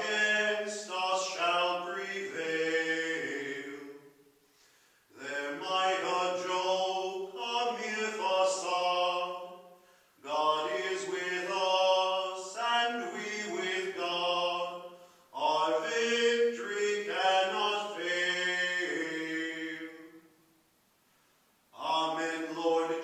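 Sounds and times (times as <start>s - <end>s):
man singing a hymn unaccompanied: 0.0s - 4.3s, 5.1s - 20.4s, 21.7s - 23.0s.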